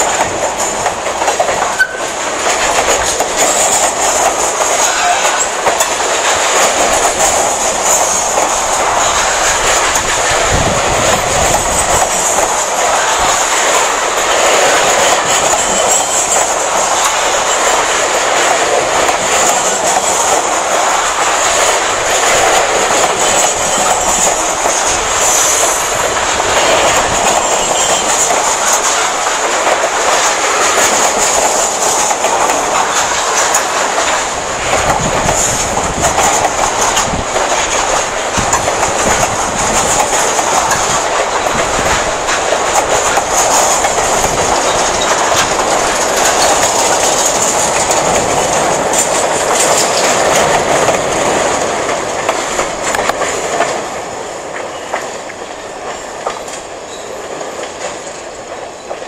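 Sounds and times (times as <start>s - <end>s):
steel wheels rumbling on rails: 0.0s - 59.0s
wheels clacking over rail joints: 0.0s - 59.0s.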